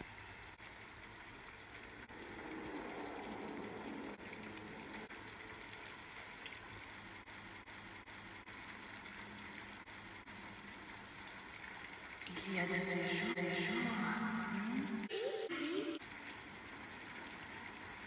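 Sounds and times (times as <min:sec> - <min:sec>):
rain falling: 0:00.0 - 0:18.0
low city hum: 0:00.2 - 0:07.0, 0:08.8 - 0:16.6.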